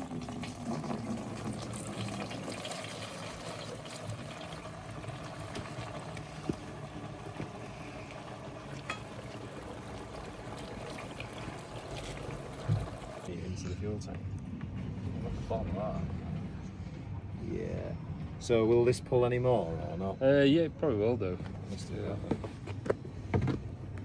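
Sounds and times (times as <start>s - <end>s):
diesel trickling through filter: 0.0s - 23.6s.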